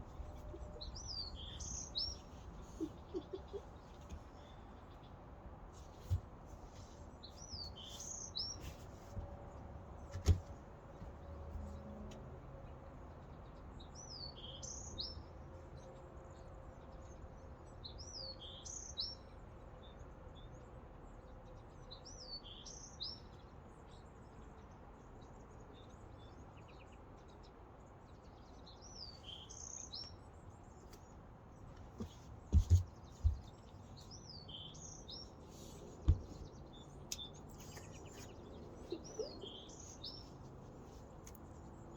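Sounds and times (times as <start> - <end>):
faint outdoor noise: 0.0 - 41.9.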